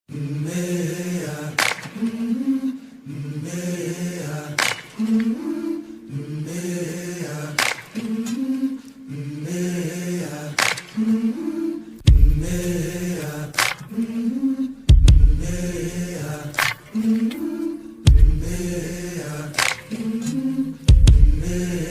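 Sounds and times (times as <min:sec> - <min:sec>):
layered voices chanting: 0:00.1 - 0:21.9.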